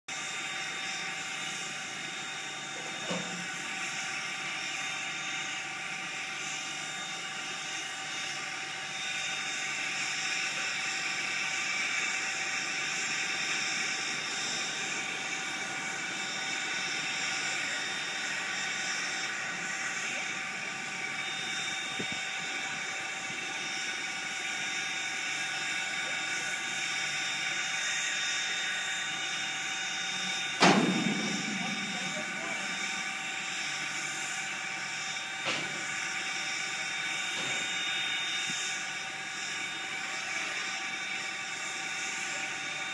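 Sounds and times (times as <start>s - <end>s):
constant whining tones: 0.1s - 42.9s
steam locomotive hissing: 0.1s - 42.9s.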